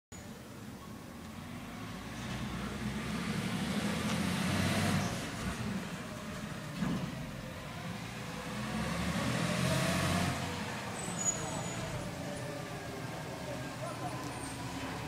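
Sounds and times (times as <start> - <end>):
garbage truck engine rumble: 1.5 - 15.0.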